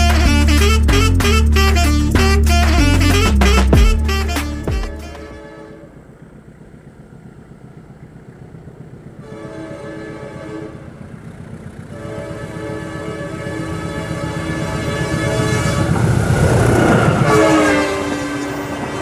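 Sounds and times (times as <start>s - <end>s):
locomotive multi-tone horn: 0.0s - 6.3s, 9.1s - 19.0s
train low rumble: 0.0s - 19.0s.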